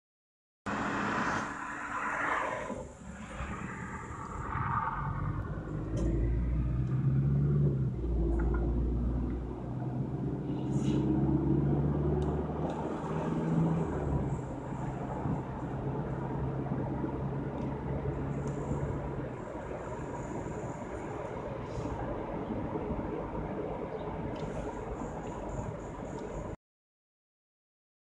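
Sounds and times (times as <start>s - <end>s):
car engine: 0.7s - 26.6s
road rumble: 0.7s - 26.6s.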